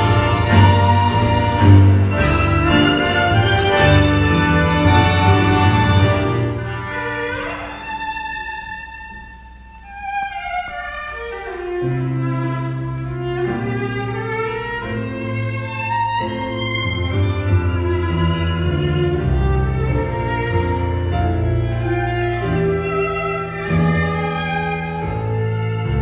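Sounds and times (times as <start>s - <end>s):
low bowed strings and bass: 0.0s - 26.0s
tango music: 0.0s - 26.0s
violin melody: 0.0s - 26.0s.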